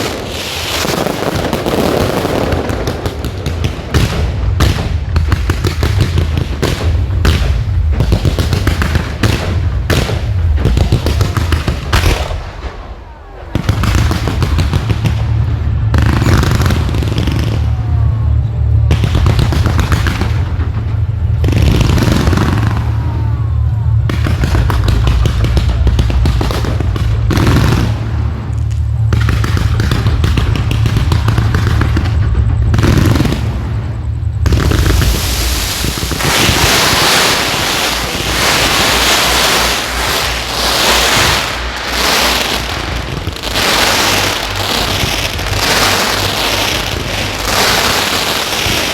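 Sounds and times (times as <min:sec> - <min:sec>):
fireworks bangs and crackling: 0:00.0 - 0:48.9
low rumble: 0:01.0 - 0:48.9.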